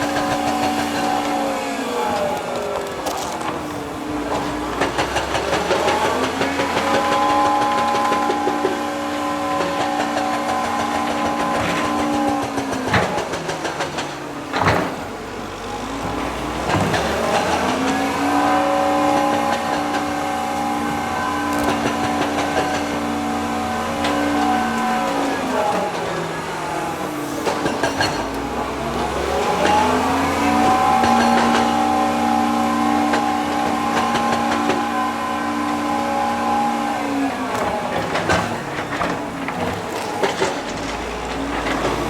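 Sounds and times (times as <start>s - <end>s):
heavy machine engine revving: 0.0s - 42.0s.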